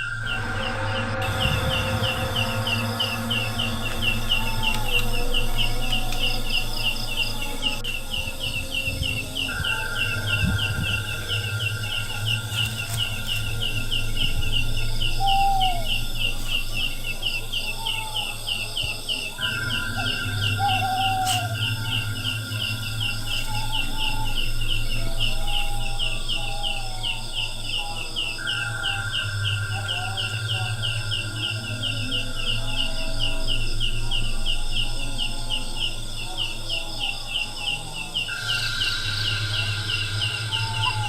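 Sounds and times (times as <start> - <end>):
high insect whine: 0.0 - 41.0
insect chirping: 0.0 - 41.0
low steady hum: 0.0 - 41.0.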